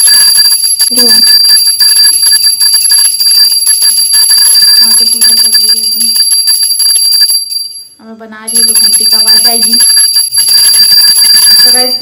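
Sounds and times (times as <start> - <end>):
bell ringing: 0.0 - 12.0.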